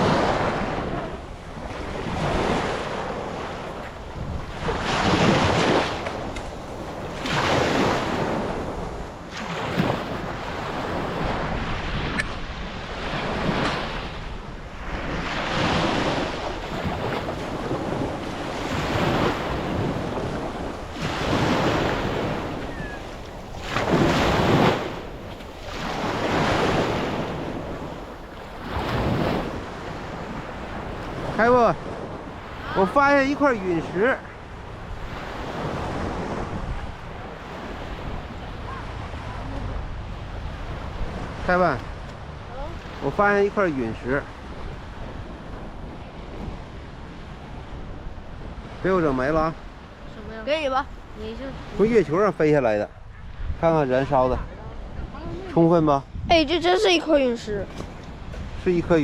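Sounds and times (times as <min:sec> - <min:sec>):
sea waves splashing around a boat: 0:00.0 - 0:59.0
wind buffeting microphone: 0:00.0 - 0:59.0.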